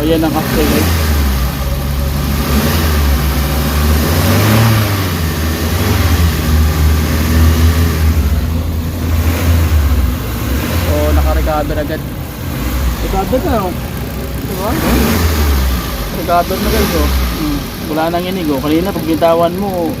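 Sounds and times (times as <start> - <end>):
small car engine revving: 0.0 - 20.0.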